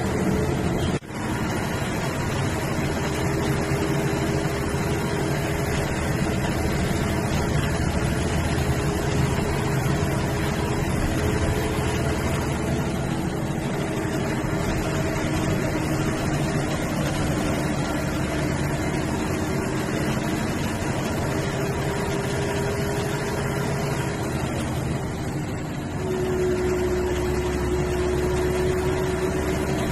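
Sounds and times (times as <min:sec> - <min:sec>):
bus engine hum: 0:00.0 - 0:29.9
road noise: 0:00.0 - 0:29.9.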